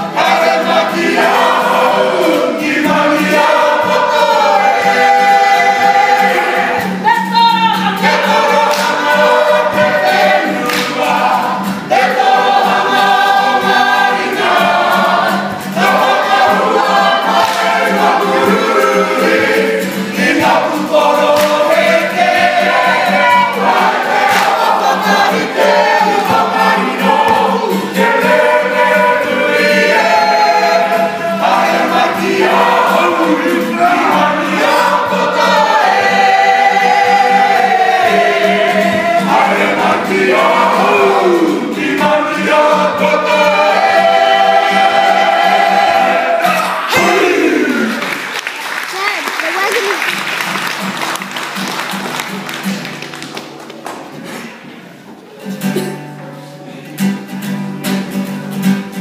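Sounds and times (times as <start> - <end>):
group of voices singing: 0.0 - 48.3
acoustic guitar: 0.0 - 59.0.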